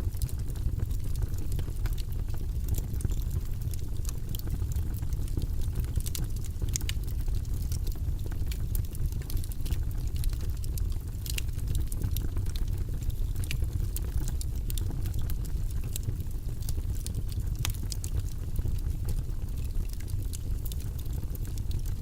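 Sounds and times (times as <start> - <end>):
fire crackling in a fireplace: 0.0 - 22.0.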